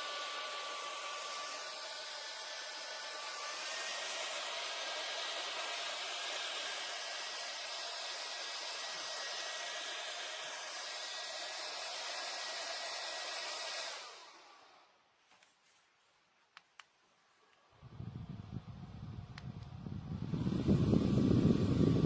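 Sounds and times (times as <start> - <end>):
handheld fan running: 0.0 - 14.8, 17.8 - 22.0.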